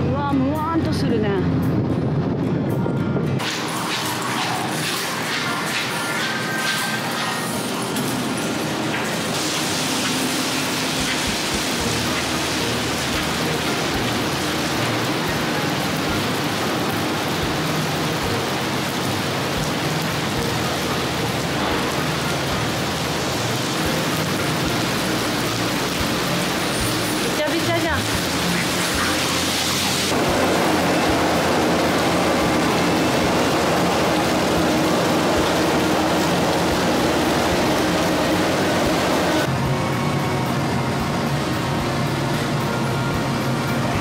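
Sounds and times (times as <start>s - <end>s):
heavy rain on asphalt: 3.4s - 39.5s.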